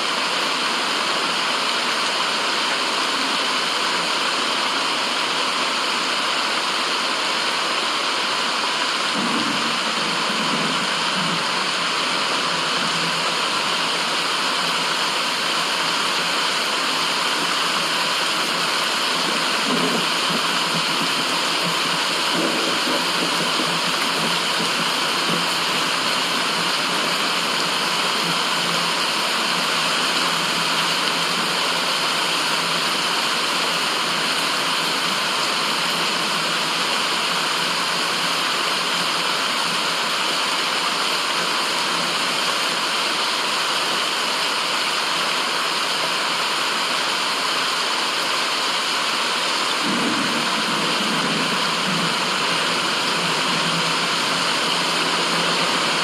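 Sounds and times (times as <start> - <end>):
rushing white noise hiss: 0.0 - 56.0.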